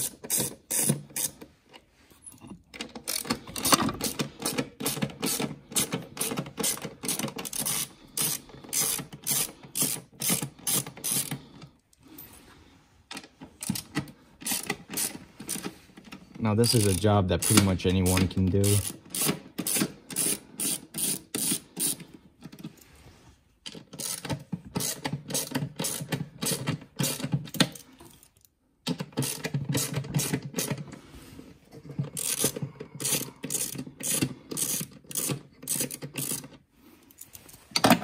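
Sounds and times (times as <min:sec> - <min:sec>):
hand ratchet wrench clicking: 0:00.0 - 0:01.5, 0:02.7 - 0:11.6, 0:13.1 - 0:15.7, 0:16.6 - 0:22.1, 0:23.7 - 0:30.8, 0:32.0 - 0:37.2.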